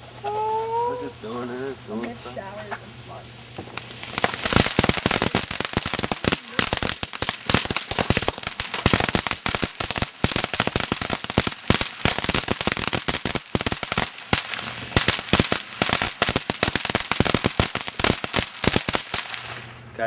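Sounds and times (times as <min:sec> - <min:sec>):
firework crackling pops: 0:00.0 - 0:19.8.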